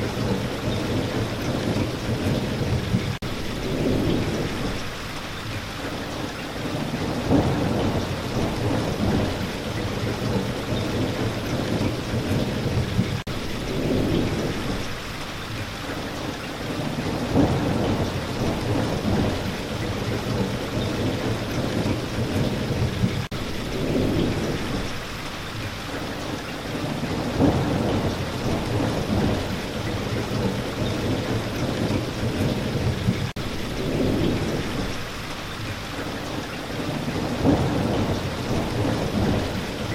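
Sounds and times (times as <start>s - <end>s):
low thunder rumbles: 0.0s - 5.0s, 6.5s - 15.1s, 16.7s - 25.1s, 26.0s - 35.2s, 36.7s - 39.9s
steady rain falling: 0.0s - 39.9s.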